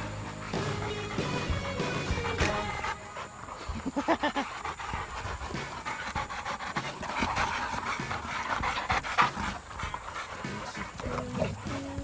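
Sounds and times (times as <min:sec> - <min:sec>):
dog vocal sound: 0:00.0 - 0:12.0
dogs panting: 0:00.0 - 0:12.0.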